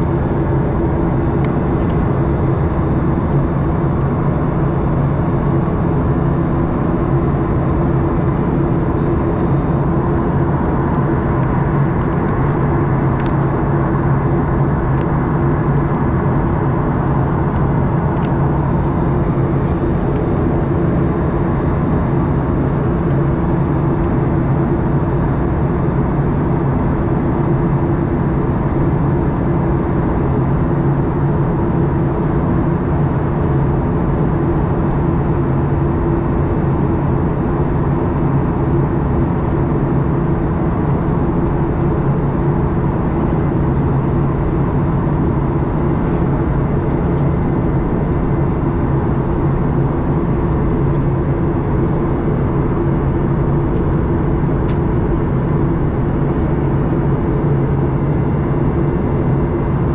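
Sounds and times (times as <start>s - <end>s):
jet engine cabin roar: 0.0s - 59.9s
low steady hum: 0.0s - 59.9s.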